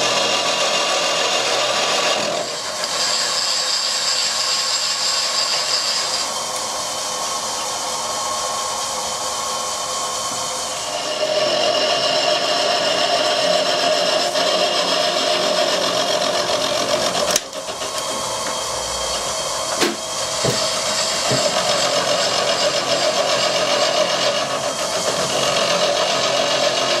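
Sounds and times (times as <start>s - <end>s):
milling machine cutting metal: 0.0s - 27.0s.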